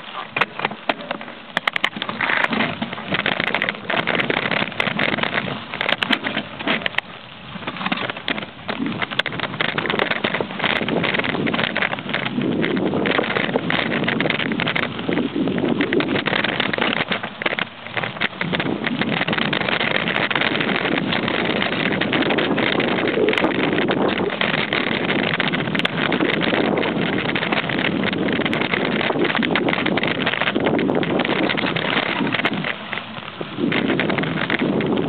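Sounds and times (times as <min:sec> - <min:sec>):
bike knocks and rattles: 0:00.0 - 0:35.0
wind rushing over microphone: 0:00.0 - 0:35.0.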